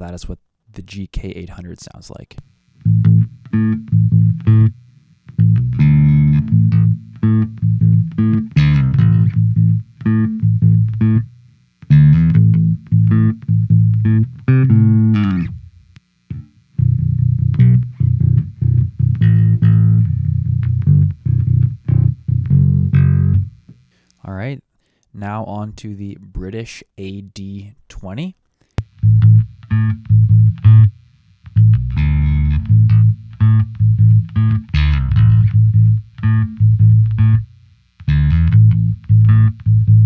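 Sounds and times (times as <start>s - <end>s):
electric bass plucked riff: 2.3s - 24.5s, 28.8s - 40.0s.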